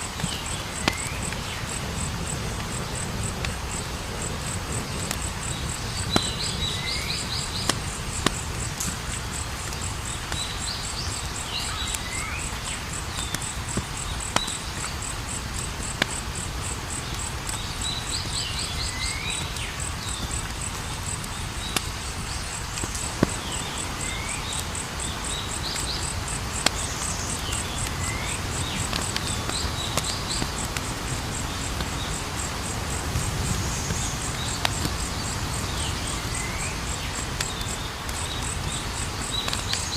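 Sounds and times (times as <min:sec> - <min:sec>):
campfire crackling: 0:00.0 - 0:39.9
crickets trilling: 0:00.0 - 0:39.9.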